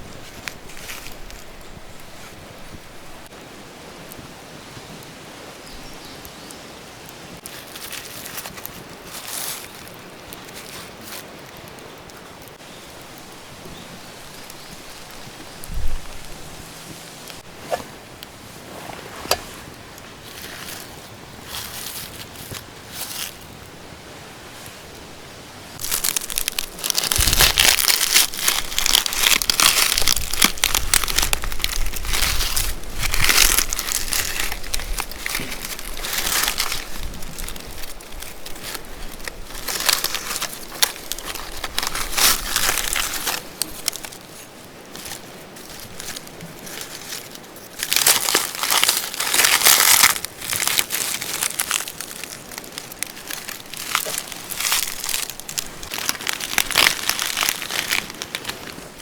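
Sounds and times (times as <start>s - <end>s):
crinkling and rustling handling noise: 0.0s - 3.0s, 7.4s - 13.4s, 17.3s - 23.8s, 25.8s - 59.0s.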